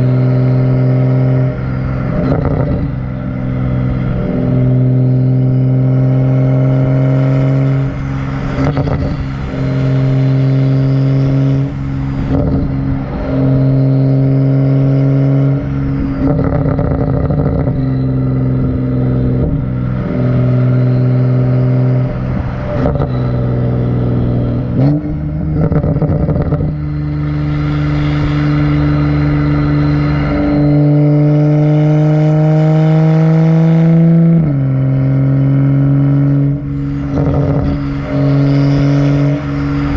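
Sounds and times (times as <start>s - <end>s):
car exhaust droning: 0.0s - 39.9s.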